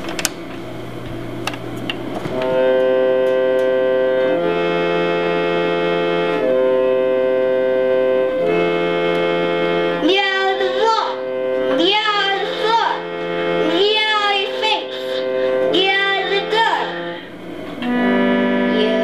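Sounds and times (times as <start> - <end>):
reedy organ-like keyboard chords: 0.0 - 19.0.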